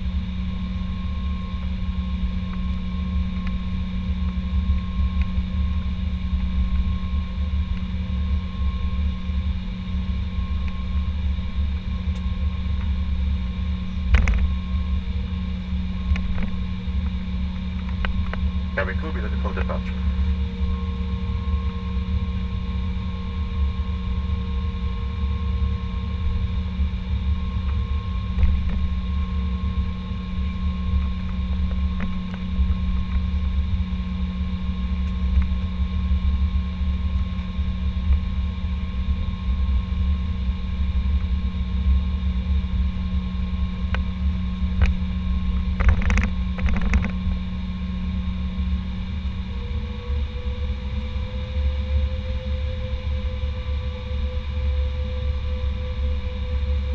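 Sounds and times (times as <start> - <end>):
aircraft cabin engine drone: 0.0 - 56.9
steady whines: 0.0 - 56.9.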